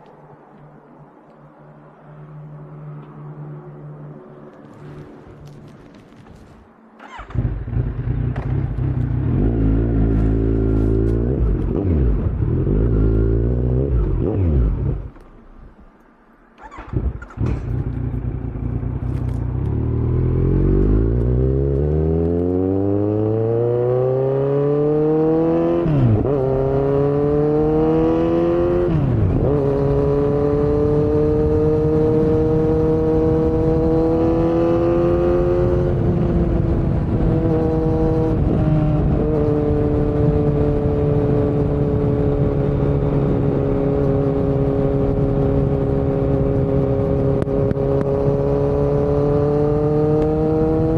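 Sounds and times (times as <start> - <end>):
motorcycle engine accelerating: 7.0 - 15.2, 16.6 - 50.9.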